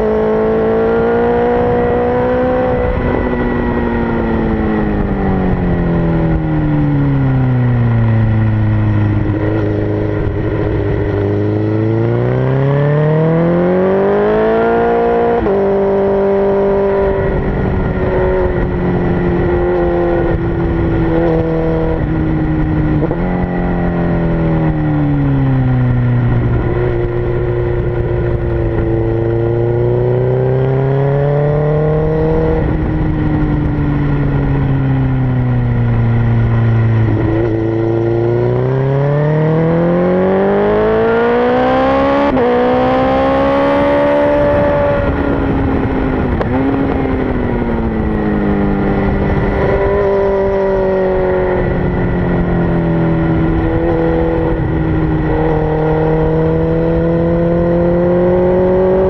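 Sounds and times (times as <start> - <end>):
motorcycle engine at speed: 0.0 - 59.0
wind rush: 0.0 - 59.0.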